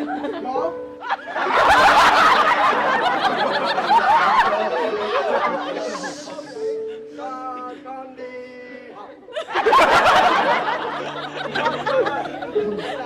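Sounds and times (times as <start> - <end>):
people laughing and chattering: 0.0 - 13.0.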